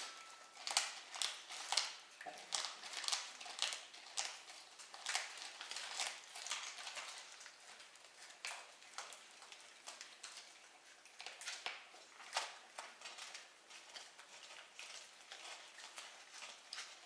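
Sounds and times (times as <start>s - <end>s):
kitten chewing food: 0.6s - 17.0s.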